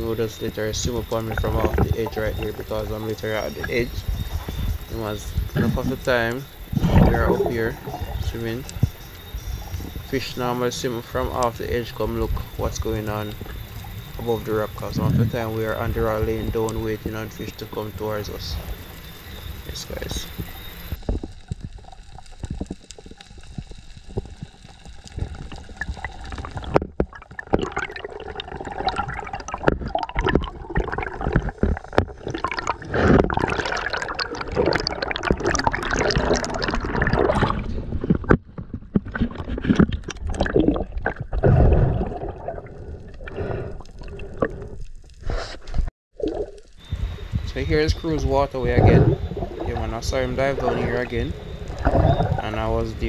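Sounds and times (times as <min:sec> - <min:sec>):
water gurgling and sloshing: 0:00.0 - 0:53.0.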